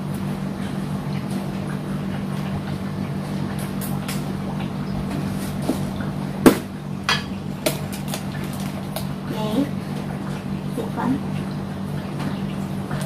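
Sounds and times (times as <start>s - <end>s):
aquarium pump humming: 0.0s - 13.0s.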